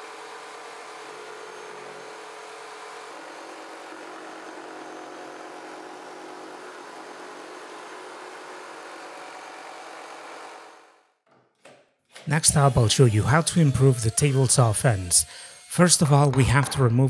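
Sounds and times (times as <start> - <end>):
jigsaw cutting plywood: 0.0 - 11.0, 12.2 - 16.8.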